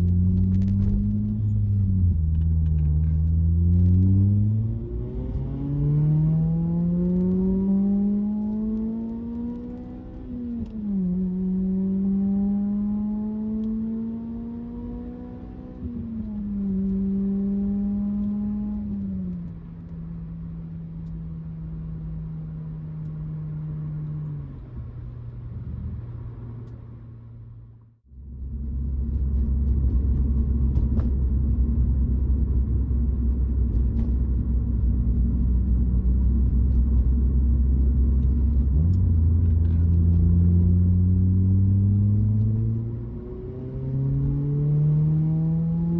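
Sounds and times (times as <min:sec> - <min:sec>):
car engine and exhaust driving: 0:00.0 - 0:45.9.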